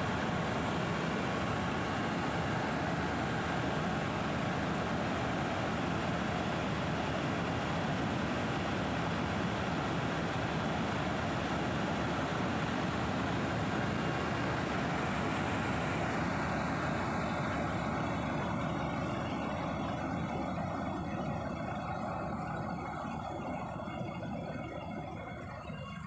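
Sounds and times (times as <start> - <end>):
helicopter engine and rotor noise: 0.0 - 26.0.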